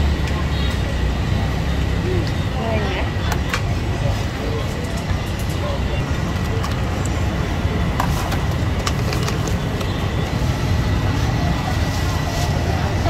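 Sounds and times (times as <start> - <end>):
street background rumble: 0.0 - 13.0.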